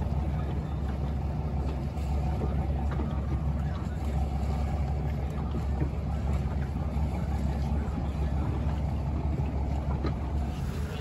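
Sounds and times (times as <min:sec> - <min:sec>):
boat engine rumbling: 0:00.0 - 0:11.0
water noise: 0:00.0 - 0:11.0.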